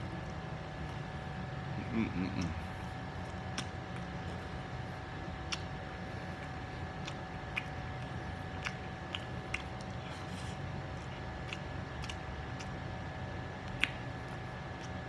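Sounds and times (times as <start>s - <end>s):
background hum: 0.0s - 15.0s
person chewing food: 0.0s - 15.0s.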